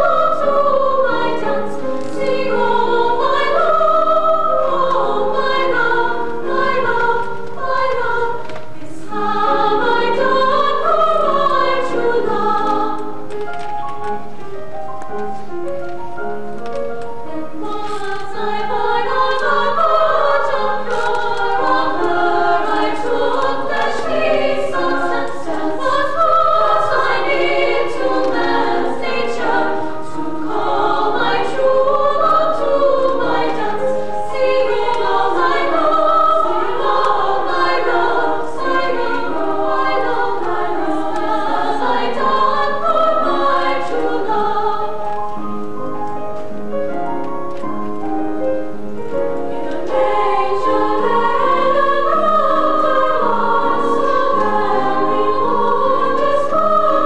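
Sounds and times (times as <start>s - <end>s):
choir of women singing: 0.0s - 13.4s, 17.3s - 45.6s, 48.6s - 57.0s.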